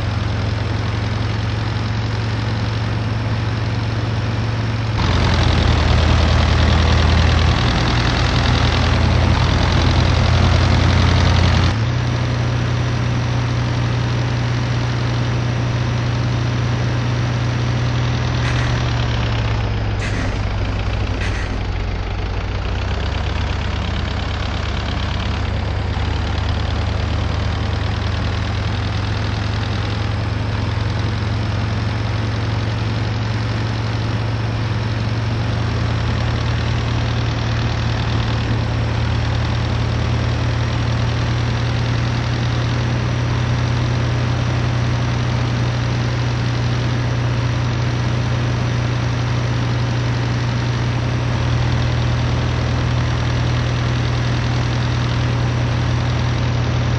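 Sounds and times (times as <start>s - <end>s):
bus engine droning: 0.0s - 56.9s.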